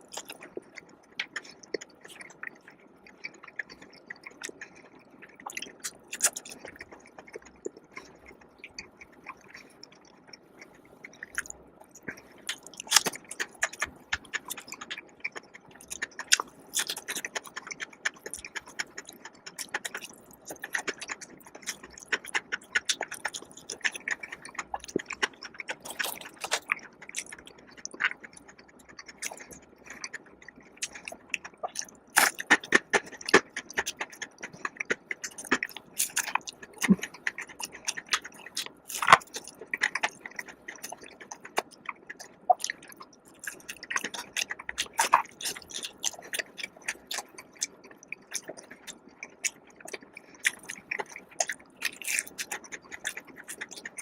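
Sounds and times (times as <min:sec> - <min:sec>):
chewing crispy food: 0:00.0 - 0:54.0.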